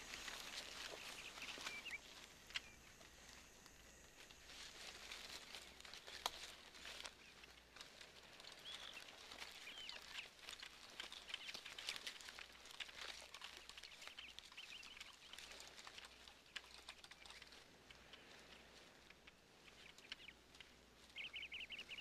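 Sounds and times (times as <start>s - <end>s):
bird chirps: 0.0s - 6.1s, 8.2s - 22.0s
footsteps in dry leaves: 0.0s - 22.0s.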